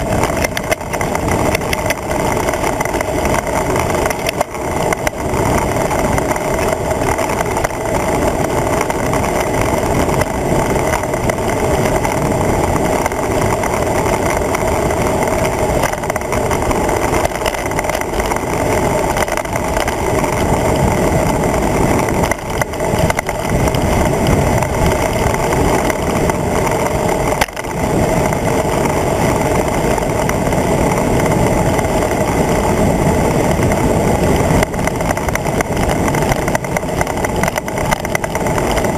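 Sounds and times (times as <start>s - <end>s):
bicycle road noise: 0.0s - 38.9s
wind rushing: 0.0s - 38.9s.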